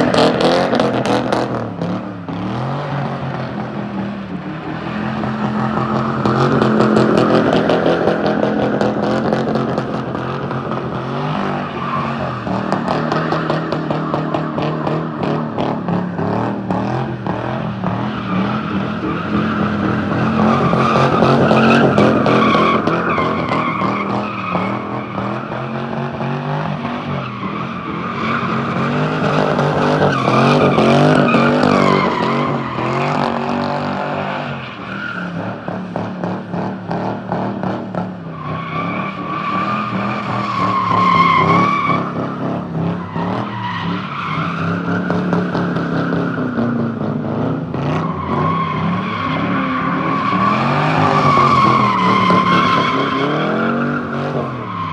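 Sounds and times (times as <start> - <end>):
car engine at high revs: 0.0 - 54.9
tires squealing: 0.0 - 54.9.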